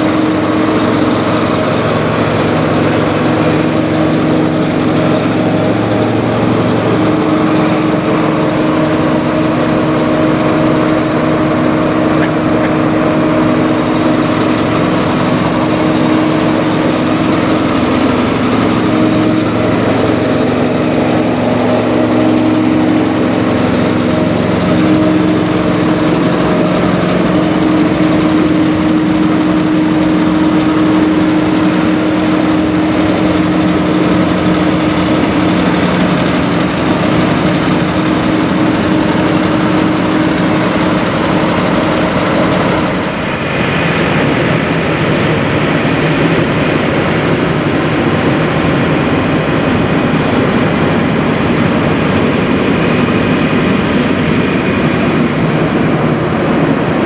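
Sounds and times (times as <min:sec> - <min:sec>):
diesel engines idling: 0:00.0 - 0:57.0.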